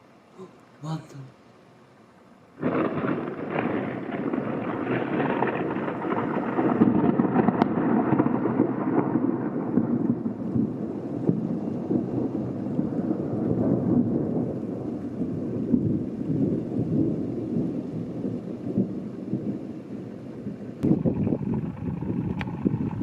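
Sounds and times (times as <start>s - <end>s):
rolling thunder: 2.6s - 23.0s.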